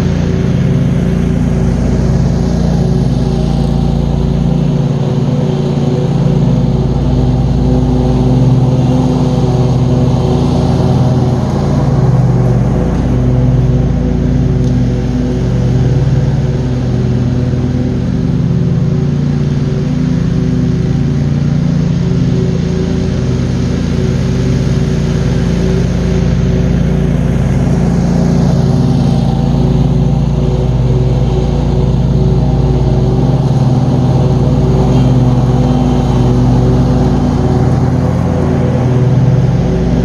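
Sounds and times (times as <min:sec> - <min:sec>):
mower engine running: 0:00.0 - 0:40.0.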